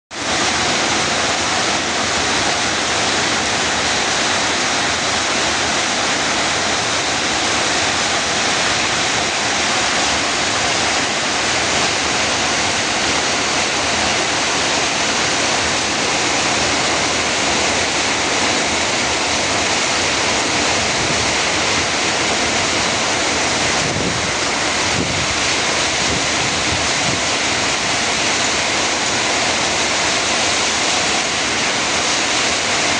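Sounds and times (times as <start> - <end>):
heavy rain hissing: 0.1 - 32.9
wind: 0.1 - 32.9.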